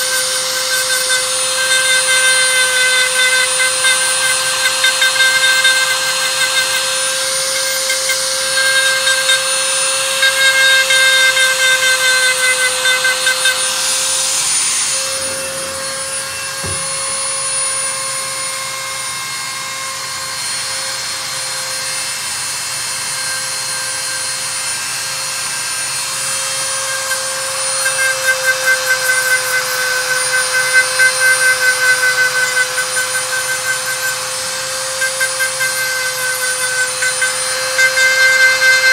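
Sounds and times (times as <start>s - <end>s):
nail drill motor whine: 0.0s - 38.9s.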